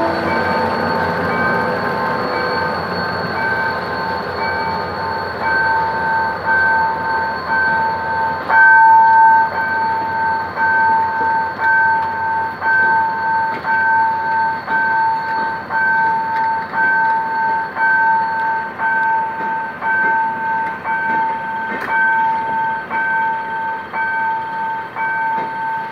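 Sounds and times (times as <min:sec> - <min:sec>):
level crossing signal beeping: 0:00.0 - 0:25.9
train coaches rumbling on tracks: 0:00.0 - 0:25.9.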